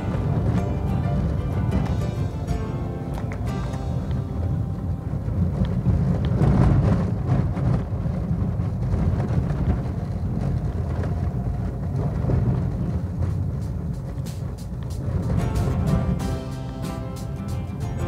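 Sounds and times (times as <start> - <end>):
engine and tyres rumbling: 0.0 - 18.0.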